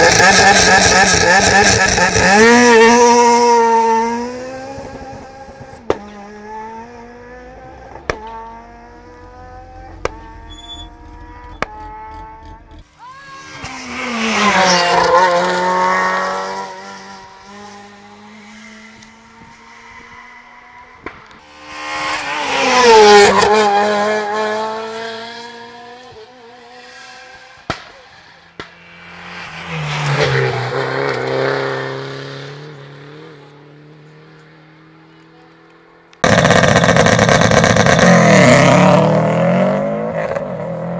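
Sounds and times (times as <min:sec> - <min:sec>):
rally cars passing at full revs: 0:00.0 - 0:40.9.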